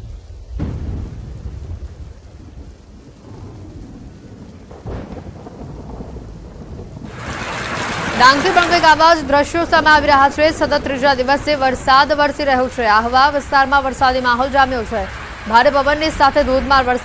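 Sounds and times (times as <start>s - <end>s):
deep rumble: 0.0s - 16.9s
rain falling on a road: 0.0s - 17.0s.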